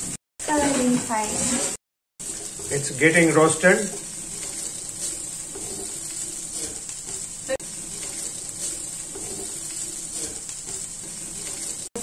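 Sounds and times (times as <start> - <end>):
potatoes sizzling in oil: 0.4 - 12.0
spatula stirring and scraping: 0.6 - 12.0.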